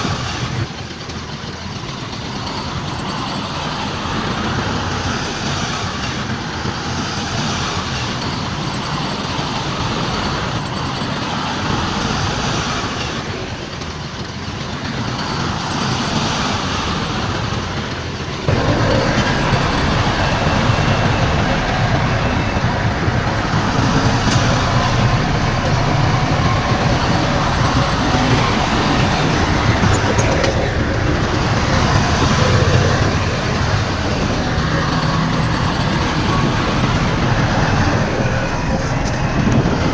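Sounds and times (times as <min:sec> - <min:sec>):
heavy diesel machinery rumbling: 0:00.0 - 0:39.9.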